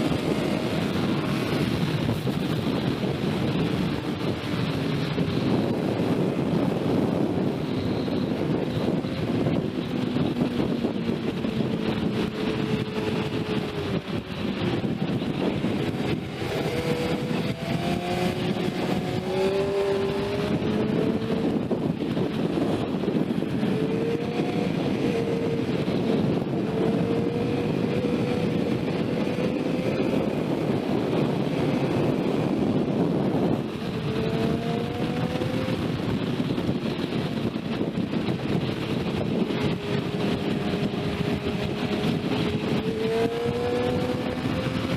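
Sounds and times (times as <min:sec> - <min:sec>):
sport motorcycle engine revving: 0:00.0 - 0:44.9
wind rush: 0:00.0 - 0:44.9.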